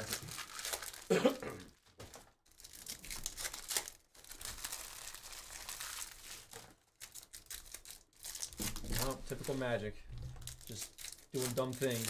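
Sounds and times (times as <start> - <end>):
foil wrappers crinkling: 0.0 - 1.1, 1.7 - 12.0.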